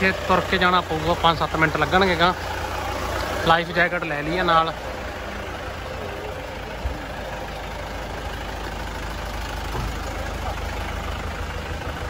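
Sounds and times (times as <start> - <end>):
jeep engines idling: 0.0 - 12.0.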